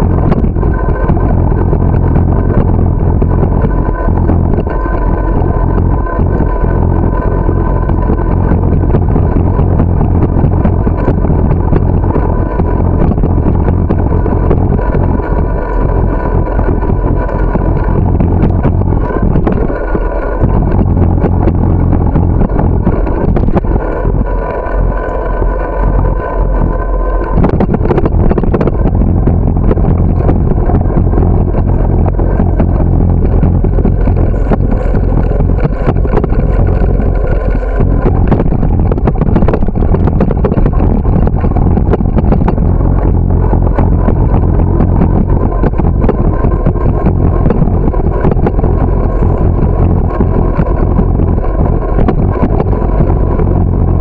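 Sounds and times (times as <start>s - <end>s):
bicycle rattles and knocks: 0.0s - 54.0s
wind buffeting microphone: 0.0s - 54.0s.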